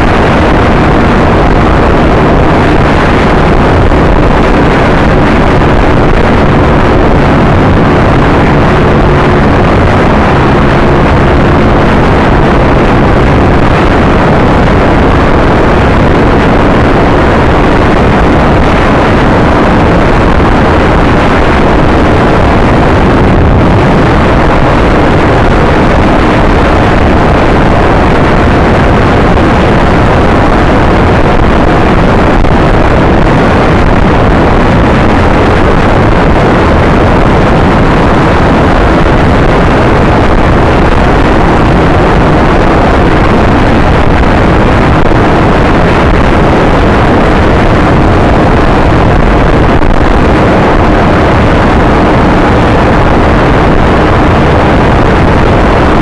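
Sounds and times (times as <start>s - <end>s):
scooter engine drone: 0.0s - 56.0s
wind rush on microphone: 0.0s - 56.0s.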